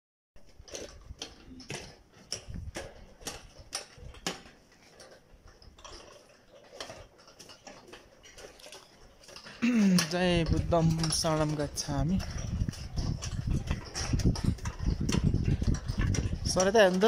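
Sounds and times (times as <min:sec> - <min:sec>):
sharp clicks and knocks: 0:00.4 - 0:17.0.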